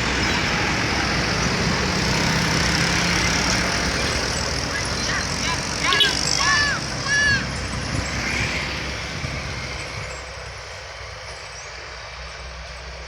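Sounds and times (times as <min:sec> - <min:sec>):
truck engine rumbling past: 0:00.0 - 0:13.0.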